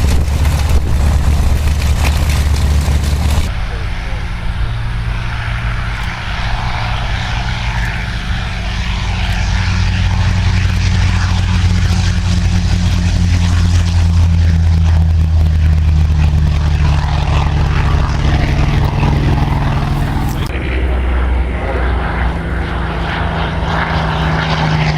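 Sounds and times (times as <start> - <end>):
propeller plane engine drone: 0.0 - 24.9.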